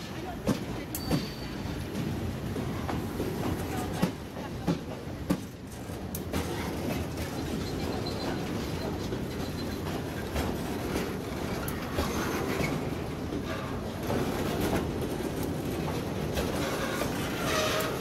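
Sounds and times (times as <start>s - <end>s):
train wheels clicking on rail joints: 0.0s - 18.0s.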